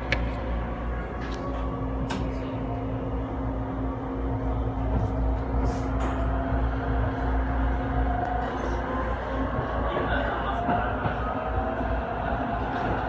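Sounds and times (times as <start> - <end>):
train rumble and hum: 0.0 - 13.0.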